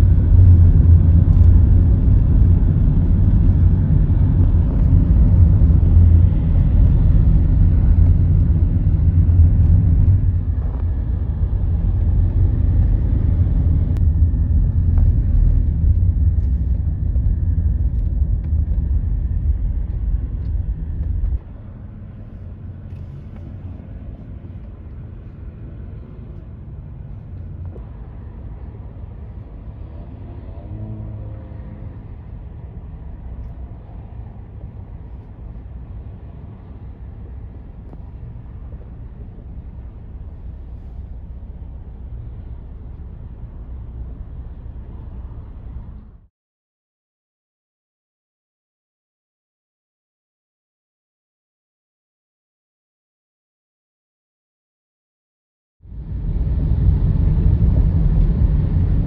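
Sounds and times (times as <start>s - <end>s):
road vehicle rumbling in motion: 0.0s - 46.3s, 55.8s - 59.0s.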